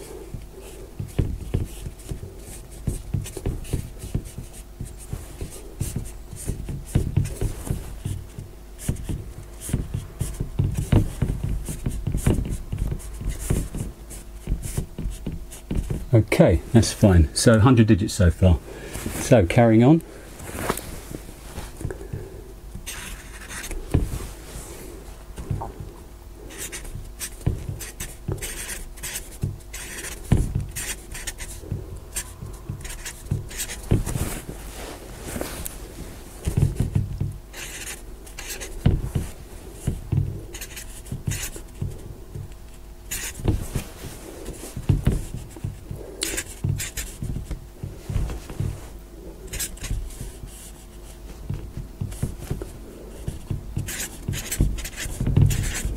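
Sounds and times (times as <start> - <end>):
marker pen scratching on board: 0.0 - 16.1, 21.8 - 34.6, 35.3 - 55.9
faint steady hum: 0.0 - 55.9.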